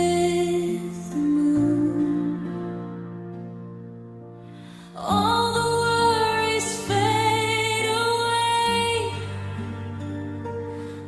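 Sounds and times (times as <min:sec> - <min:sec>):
soft christmas ballad chords: 0:00.0 - 0:11.0.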